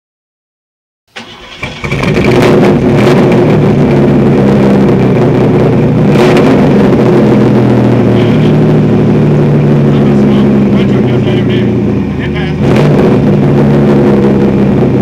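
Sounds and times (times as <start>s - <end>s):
car engine idling: 1.2s - 15.0s.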